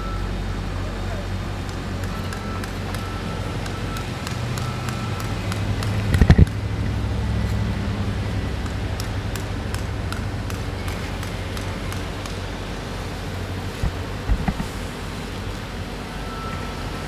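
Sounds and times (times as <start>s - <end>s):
engine running at low pitch: 0.0s - 17.0s.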